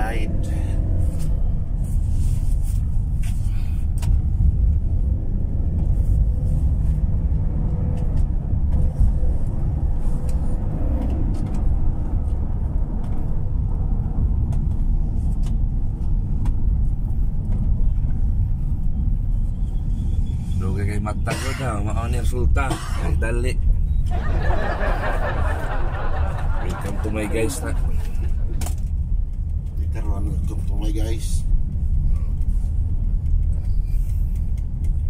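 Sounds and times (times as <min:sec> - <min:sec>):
engine and road rumble: 0:00.0 - 0:35.0.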